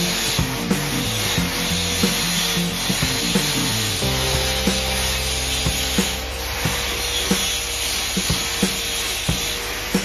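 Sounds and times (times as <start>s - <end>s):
background music with beat: 0.0s - 10.0s
paint spray gun hissing: 0.0s - 10.0s.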